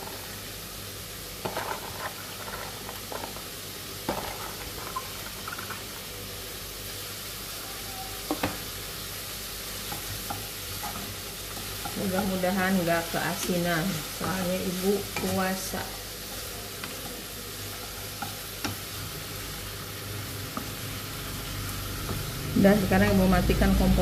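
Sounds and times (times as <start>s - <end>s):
vegetables sizzling in a wok: 0.0s - 24.0s.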